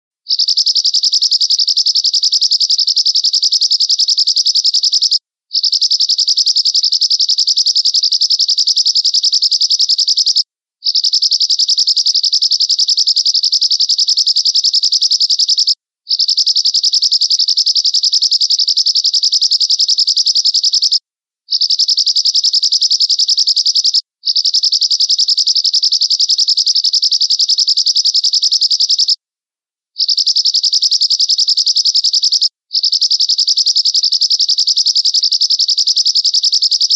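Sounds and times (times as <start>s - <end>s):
finch singing buzzy trill: 0.3s - 29.2s, 30.0s - 36.9s.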